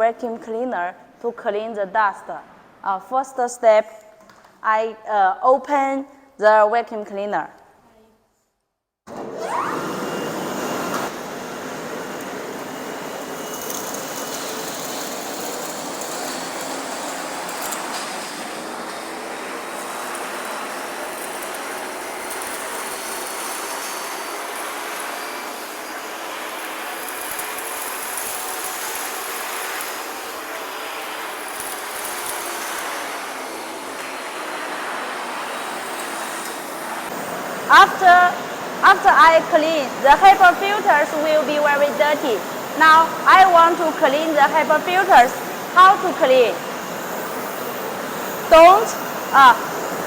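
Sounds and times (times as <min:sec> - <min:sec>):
vacuum cleaner motor whine: 0:09.1 - 0:50.0.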